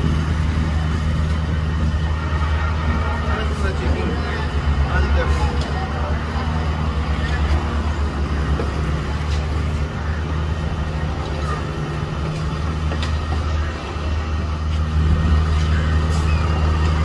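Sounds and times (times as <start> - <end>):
diesel excavator engine running: 0.0 - 17.0.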